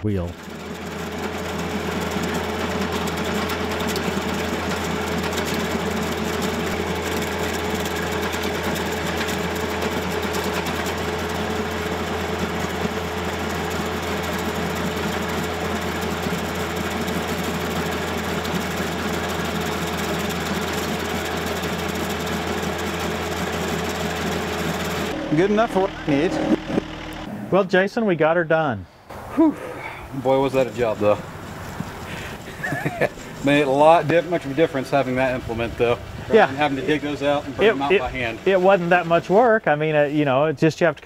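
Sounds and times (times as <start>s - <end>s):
tractor engine under load: 0.0s - 27.3s, 29.1s - 40.3s
stump grinder chewing wood: 0.4s - 27.3s, 30.3s - 39.4s.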